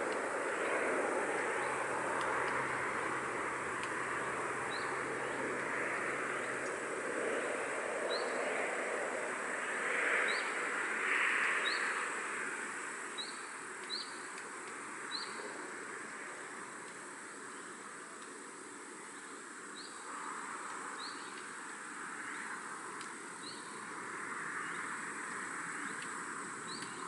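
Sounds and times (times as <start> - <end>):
wind blowing through trees: 0.0 - 27.0.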